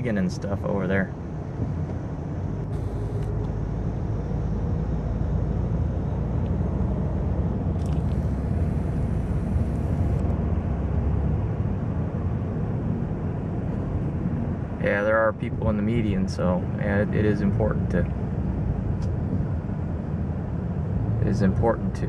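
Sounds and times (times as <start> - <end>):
car engine rumble: 0.0 - 22.0
road noise inside car: 0.0 - 22.0.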